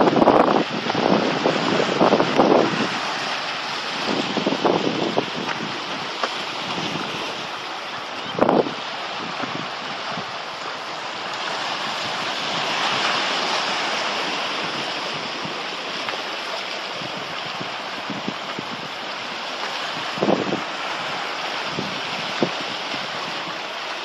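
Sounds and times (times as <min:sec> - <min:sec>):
waves washing over rocks: 0:00.0 - 0:24.0.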